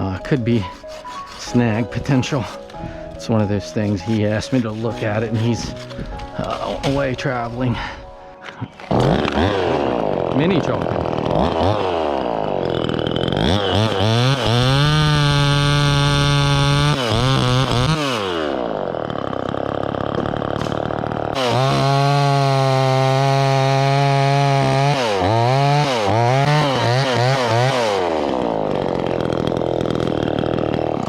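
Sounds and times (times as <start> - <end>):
chainsaw revving: 0.0 - 31.0.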